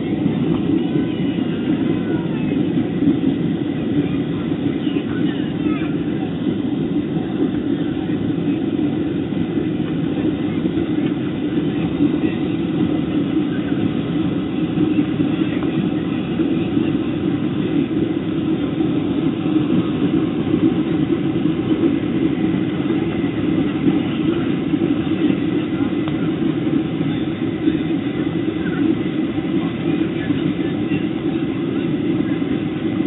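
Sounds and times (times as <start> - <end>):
jet engines and airflow in cabin: 0.0 - 33.0.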